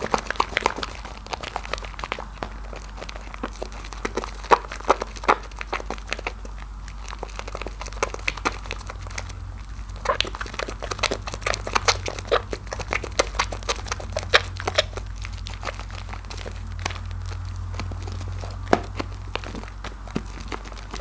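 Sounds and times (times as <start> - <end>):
soap lather squishing: 0.0 - 21.0.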